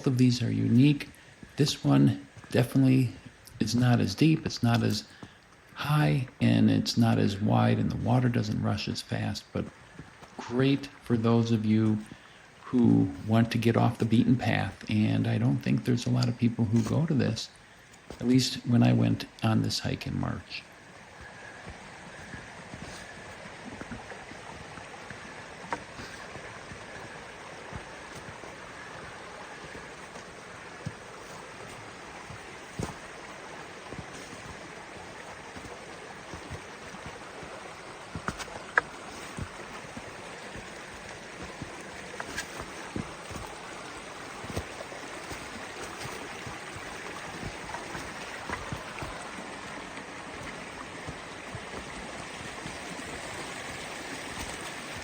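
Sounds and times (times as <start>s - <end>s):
creek flowing: 0.0s - 55.0s.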